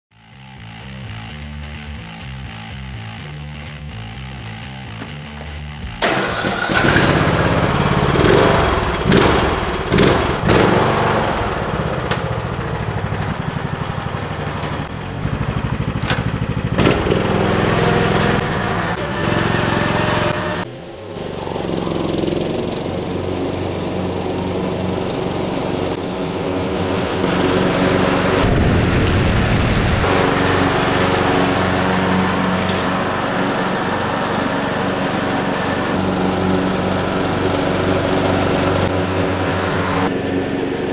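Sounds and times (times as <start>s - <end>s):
lawn tractor engine starting: 3.2s - 28.9s, 30.0s - 40.9s.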